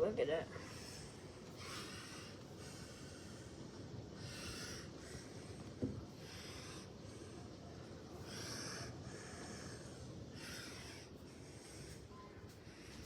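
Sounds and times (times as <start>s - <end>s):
close breathing into microphone: 0.6s - 13.0s.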